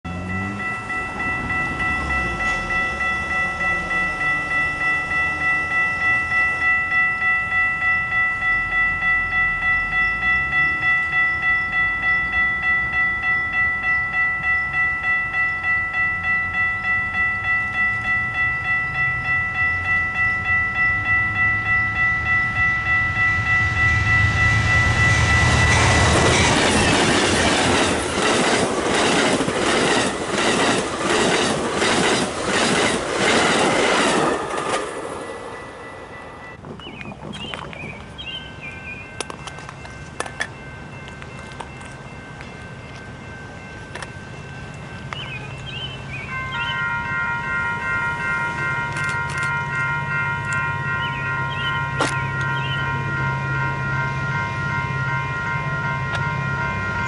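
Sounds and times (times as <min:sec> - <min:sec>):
diesel locomotives rumbling past: 0:00.0 - 0:57.0
railroad crossing bell ringing: 0:00.0 - 0:57.0.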